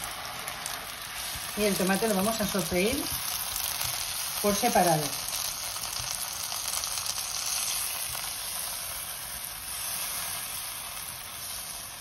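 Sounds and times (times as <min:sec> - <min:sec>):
tomato sizzling in oil: 0:00.0 - 0:12.0.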